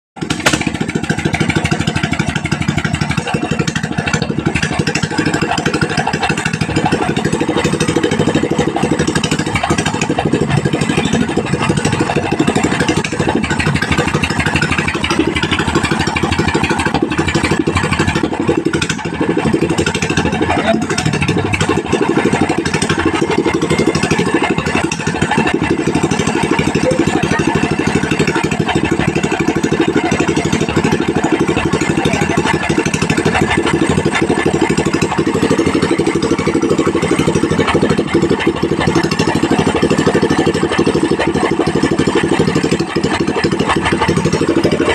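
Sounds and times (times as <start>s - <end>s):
gasoline engine running steadily: 0.2s - 44.9s.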